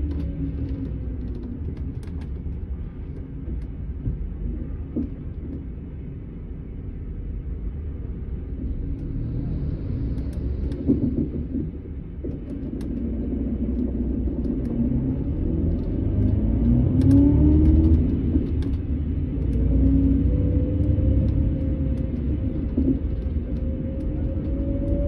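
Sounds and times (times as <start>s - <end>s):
bus diesel engine rumbling: 0.0s - 25.0s.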